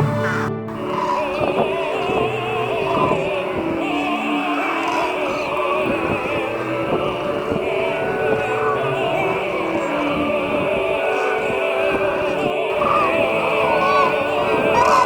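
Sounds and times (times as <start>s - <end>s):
operatic singing with music: 0.0s - 15.0s.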